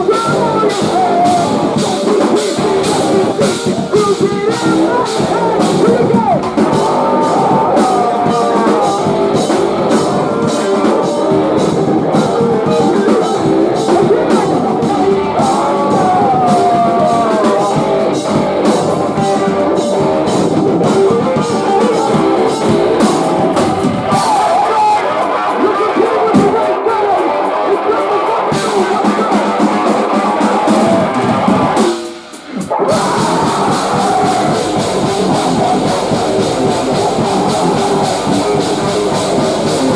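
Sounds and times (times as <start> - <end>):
drum kit: 0.0 - 39.9
loud distorted electric guitars: 0.0 - 39.9.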